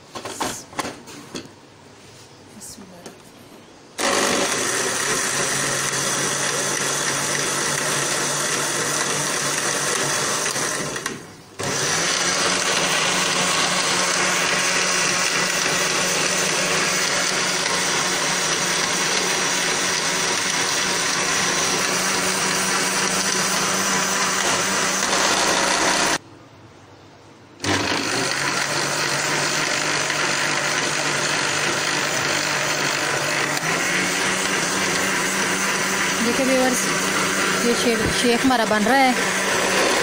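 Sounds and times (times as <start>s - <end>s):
blender motor running: 4.0s - 26.2s, 27.6s - 40.0s.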